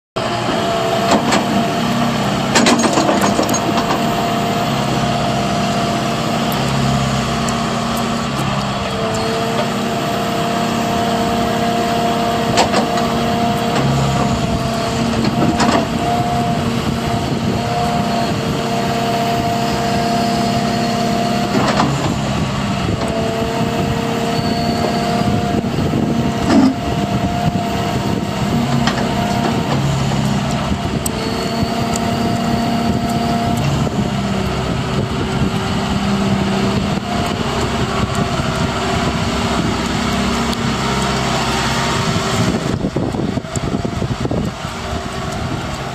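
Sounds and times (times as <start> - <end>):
engine whine: 0.0 - 45.9
excavator diesel engine running: 0.2 - 45.9.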